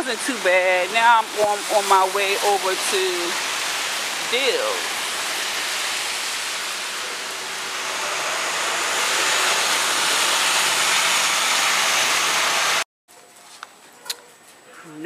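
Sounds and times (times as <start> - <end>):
car tyres on wet street: 0.0 - 12.9
rain hissing: 0.0 - 12.9.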